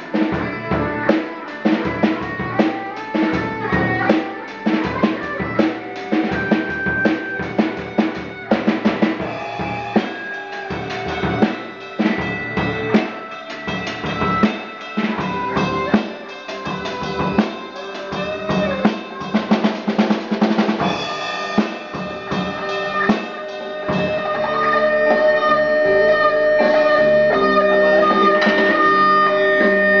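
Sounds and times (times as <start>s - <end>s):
amplified electric guitar: 0.0s - 30.0s
drum kit playing: 0.0s - 30.0s.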